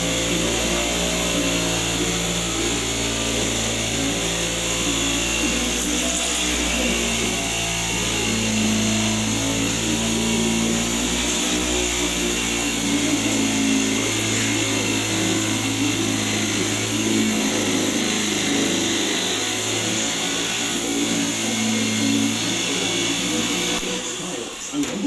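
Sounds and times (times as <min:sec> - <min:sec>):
electric metal shear whine: 0:00.0 - 0:25.0.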